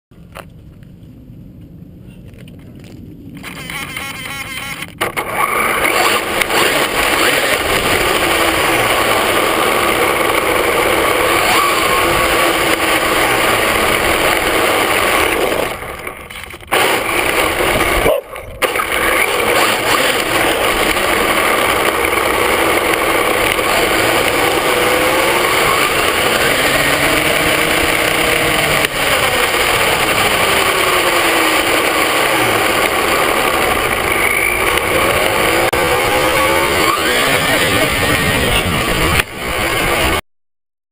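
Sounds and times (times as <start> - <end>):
gear and tyre noise: 0.1 - 40.2
electric motor whining: 3.6 - 40.2.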